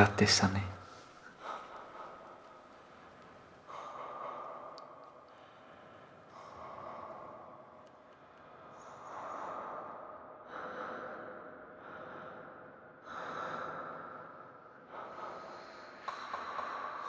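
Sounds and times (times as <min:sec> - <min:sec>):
person breathing heavily: 0:00.8 - 0:17.0.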